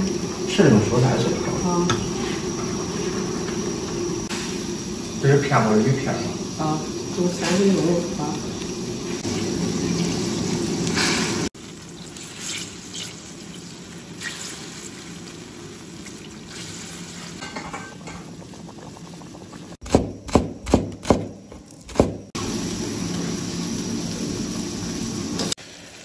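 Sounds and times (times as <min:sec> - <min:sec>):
broth boiling in a wok: 0:00.0 - 0:26.0.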